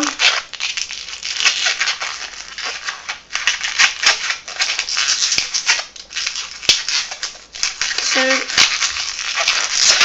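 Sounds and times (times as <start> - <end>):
latex balloon rubbing and clicking: 0.0 - 10.0.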